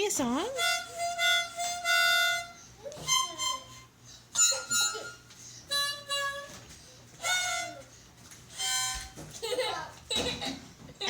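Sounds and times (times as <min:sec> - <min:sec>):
harmonica chords: 0:00.0 - 0:09.7.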